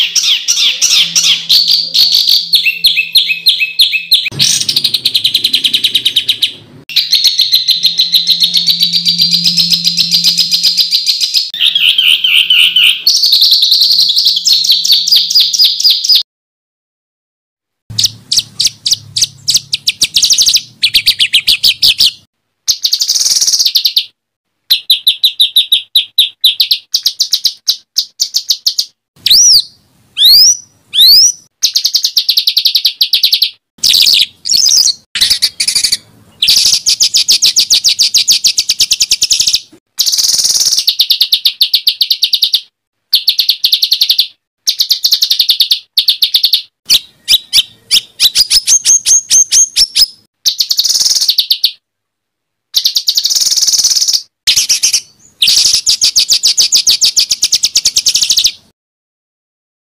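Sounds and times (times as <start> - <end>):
sharp rising bird whistles: 0.0 - 16.2, 18.0 - 23.9, 26.5 - 42.6, 43.2 - 51.7, 52.8 - 58.6
songbird fast trills: 0.0 - 16.2, 17.9 - 24.1, 24.7 - 51.8, 52.8 - 58.7.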